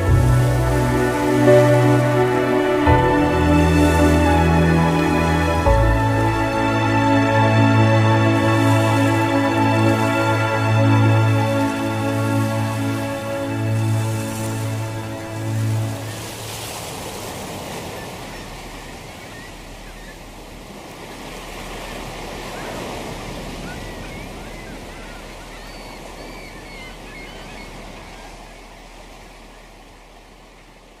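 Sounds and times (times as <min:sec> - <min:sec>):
gulls calling: 0:00.0 - 0:16.9, 0:17.6 - 0:20.4, 0:21.6 - 0:29.8
ocean waves and surf: 0:00.0 - 0:31.0.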